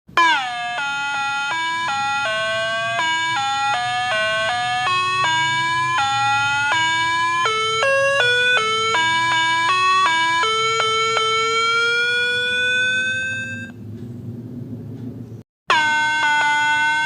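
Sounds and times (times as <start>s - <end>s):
bell-like melody: 0.2s - 13.8s, 15.7s - 17.0s.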